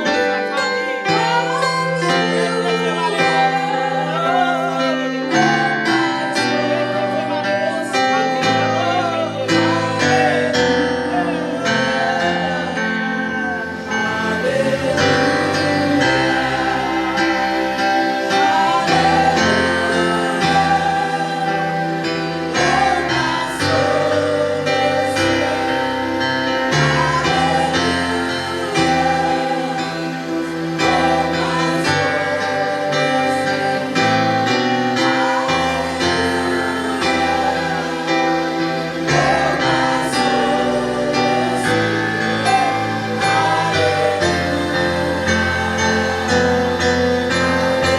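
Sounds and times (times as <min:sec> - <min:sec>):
choir singing gospel music: 0:00.0 - 0:47.9.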